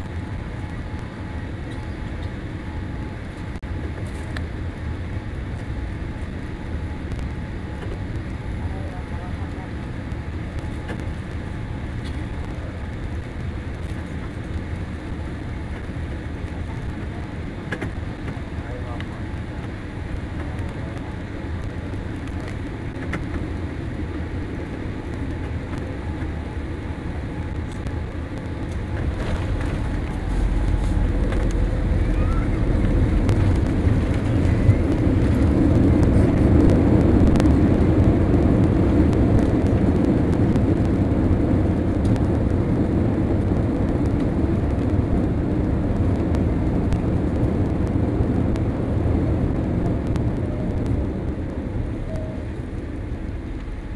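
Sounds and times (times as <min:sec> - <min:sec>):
aircraft engine and airflow noise: 0:00.0 - 0:53.9
deep rumble of wheels on runway: 0:00.0 - 0:53.9.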